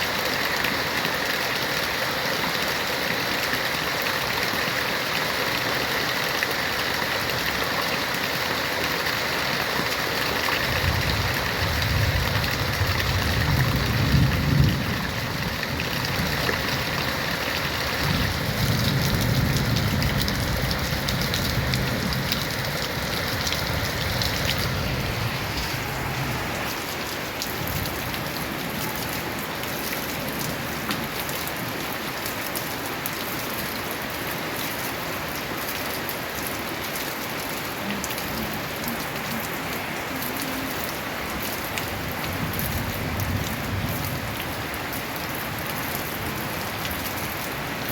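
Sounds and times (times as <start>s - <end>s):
heavy rain on a tin roof: 0.0s - 47.9s.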